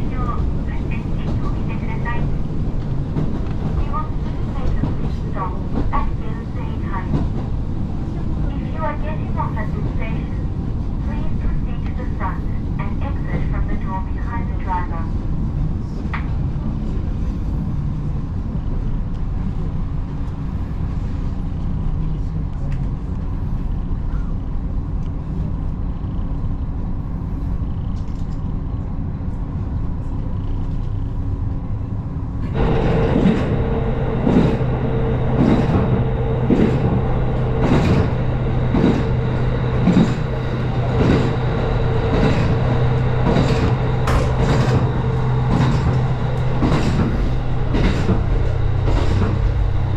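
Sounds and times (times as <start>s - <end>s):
diesel train rumbling: 0.0s - 49.9s.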